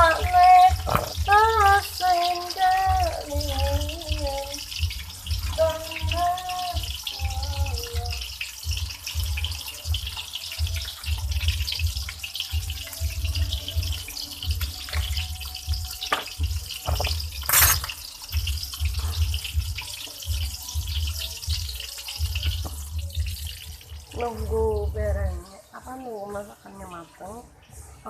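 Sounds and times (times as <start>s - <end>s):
fish sizzling in hot oil: 0.0s - 28.0s.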